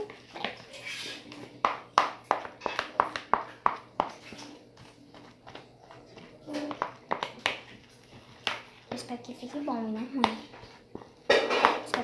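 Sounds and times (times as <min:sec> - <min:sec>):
spoon stirring sticky slime: 0:00.0 - 0:12.0.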